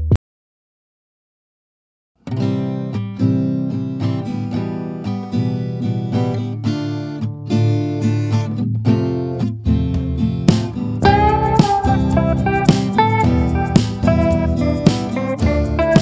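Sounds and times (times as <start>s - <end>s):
acoustic guitar tune: 2.2s - 16.0s.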